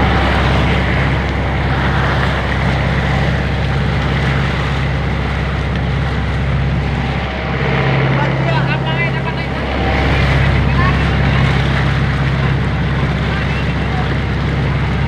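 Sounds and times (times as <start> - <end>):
motorboat engine droning: 0.0 - 15.0
water splashing along hull: 0.0 - 15.0.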